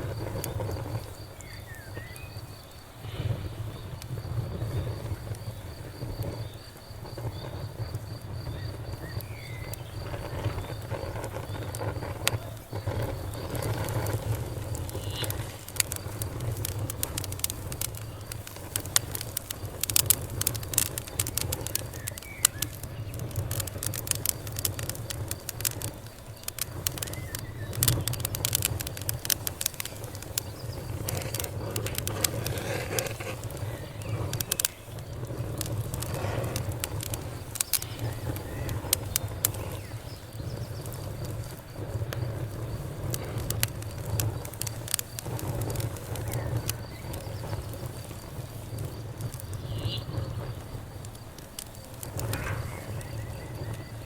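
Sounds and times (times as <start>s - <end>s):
burning wood popping: 0.0s - 54.0s
campfire crackling: 0.0s - 54.0s
low rumble of flames: 0.0s - 54.0s.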